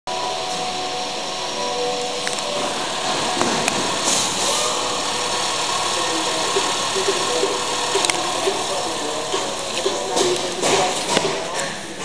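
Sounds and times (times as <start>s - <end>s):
thin high whine: 0.1s - 12.0s
car engine running: 1.1s - 11.5s.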